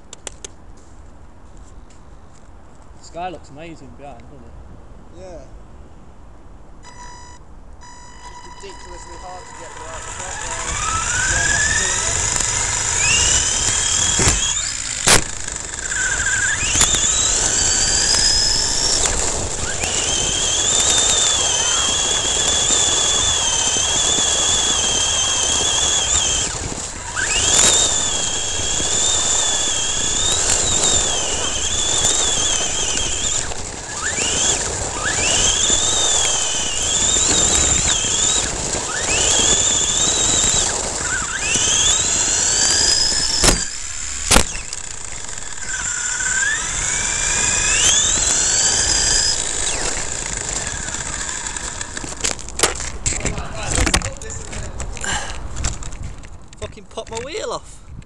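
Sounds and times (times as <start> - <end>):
electric motor whining: 6.8 - 56.3
tyres rushing on gravel: 8.6 - 57.1.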